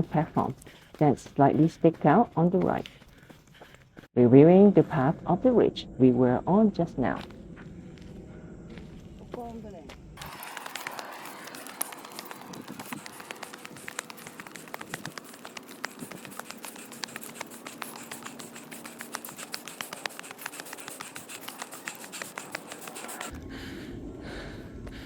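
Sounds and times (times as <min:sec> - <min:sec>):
footsteps on gravel: 0:00.0 - 0:04.1, 0:07.1 - 0:23.3.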